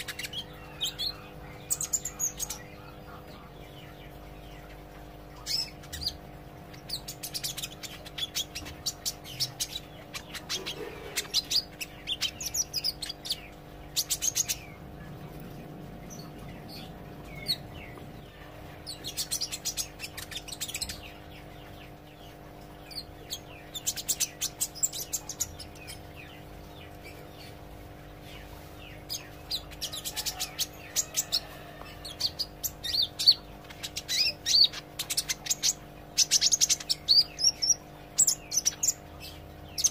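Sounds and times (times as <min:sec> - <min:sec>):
steady low hum: 0:00.0 - 0:39.9
sunbird high chirping: 0:00.0 - 0:39.9.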